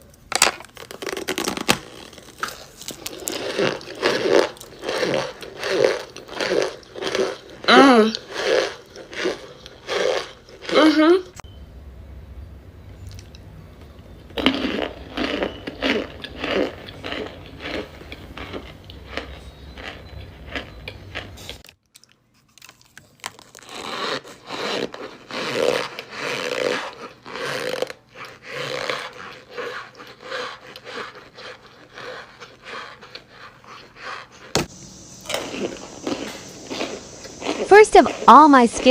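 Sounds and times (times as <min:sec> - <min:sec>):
person chewing brittle crunches: 0:00.0 - 0:11.0, 0:13.0 - 0:38.3.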